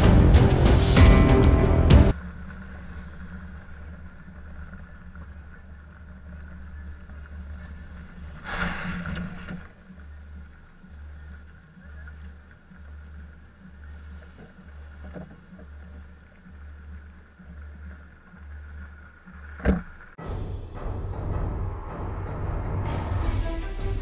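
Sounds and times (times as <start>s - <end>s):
car engine and road hum: 0.0s - 20.2s.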